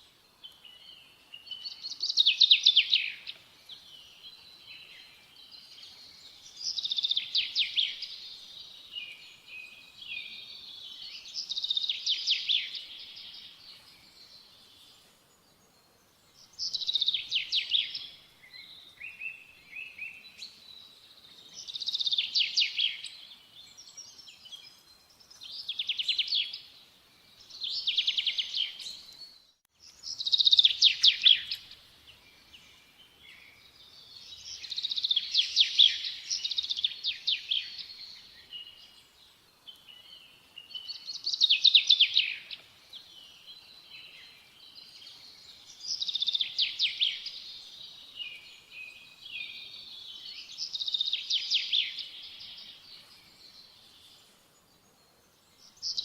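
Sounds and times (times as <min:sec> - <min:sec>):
songbird singing trills: 0:00.0 - 0:56.0.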